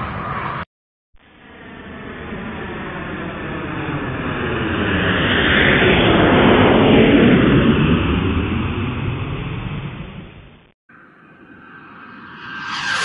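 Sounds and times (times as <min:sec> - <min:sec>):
aircraft flying past: 0:00.0 - 0:00.7, 0:01.4 - 0:10.2, 0:11.0 - 0:13.0.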